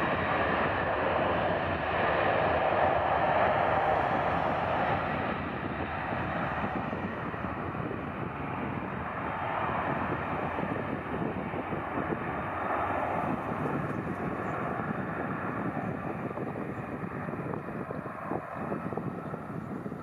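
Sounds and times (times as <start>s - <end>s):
jet engines at takeoff thrust: 0.0s - 20.0s.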